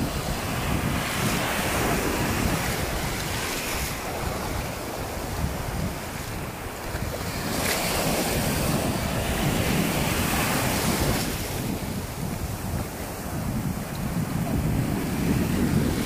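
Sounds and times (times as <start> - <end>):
sea surf breaking: 0.0 - 16.0
wind buffeting microphone: 0.0 - 16.0.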